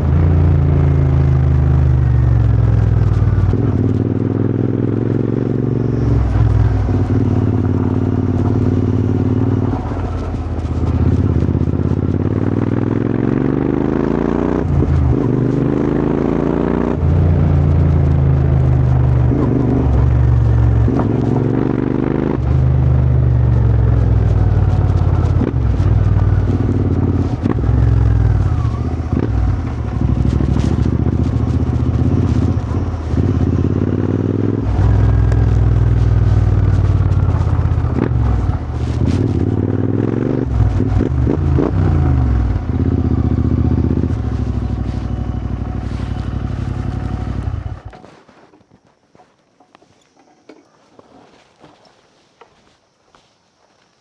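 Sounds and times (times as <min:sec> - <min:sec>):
motorcycle engine revving: 0:00.0 - 0:48.2.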